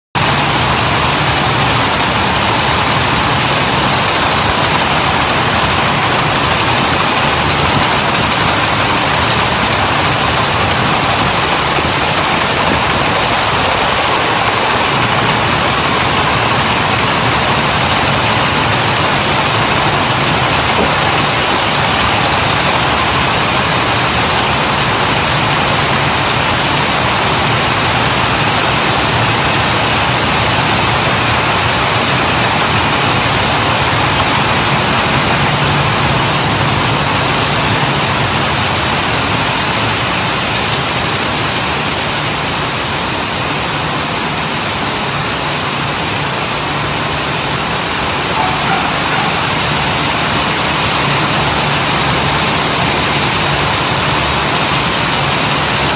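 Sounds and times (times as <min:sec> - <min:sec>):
machines running: 0:00.2 - 0:55.9.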